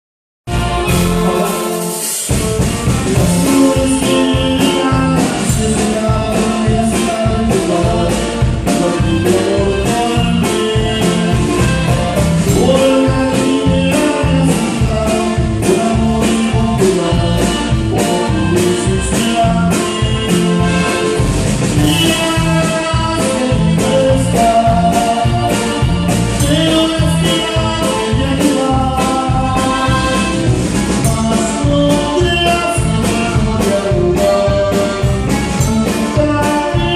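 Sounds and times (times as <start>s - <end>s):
live band playing: 0.5s - 36.9s
person singing: 0.5s - 36.9s.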